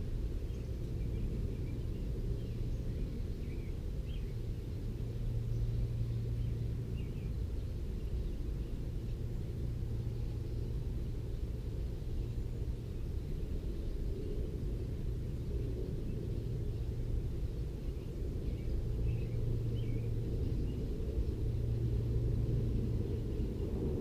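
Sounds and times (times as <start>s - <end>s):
low rumble with hum: 0.0s - 24.0s.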